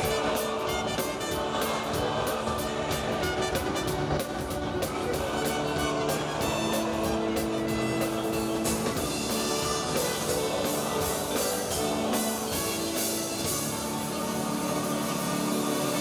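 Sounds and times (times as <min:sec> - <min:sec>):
music with drums: 0:00.0 - 0:16.0.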